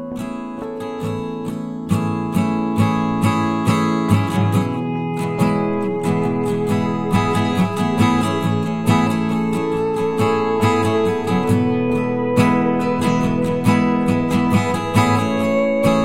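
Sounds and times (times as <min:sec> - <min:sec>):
strummed acoustic guitar music: 0:00.0 - 0:16.0.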